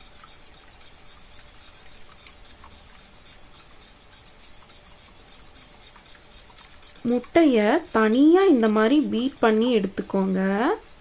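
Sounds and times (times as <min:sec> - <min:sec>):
whisk beating eggs in a bowl: 0:00.0 - 0:11.0.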